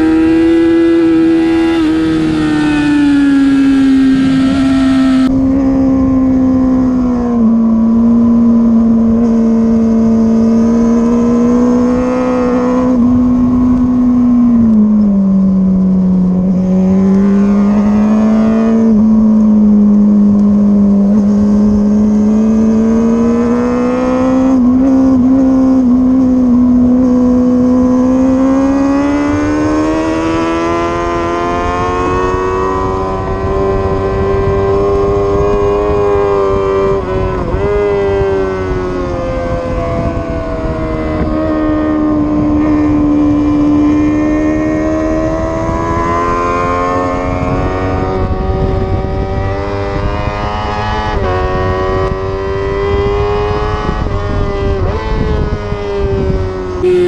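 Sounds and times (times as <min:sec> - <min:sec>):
motorcycle engine running hard: 0:00.0 - 0:57.0.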